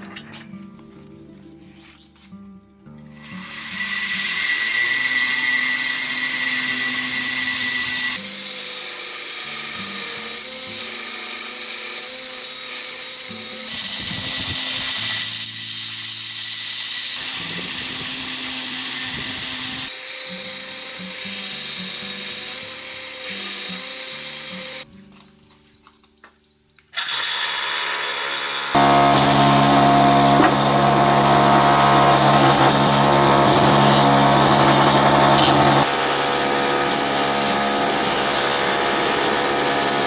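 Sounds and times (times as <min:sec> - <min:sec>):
power tool on metal: 0:03.0 - 0:24.9, 0:27.0 - 0:40.0.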